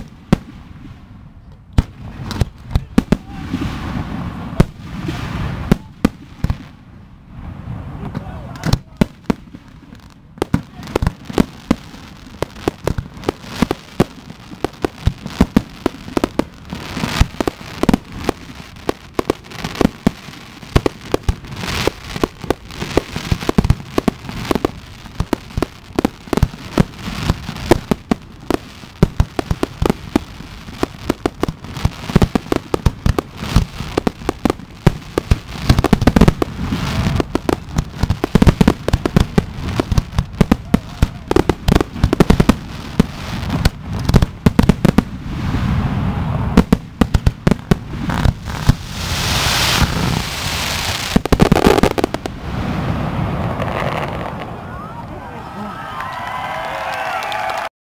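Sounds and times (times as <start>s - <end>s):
fireworks bursting and crackling: 0.0s - 57.7s.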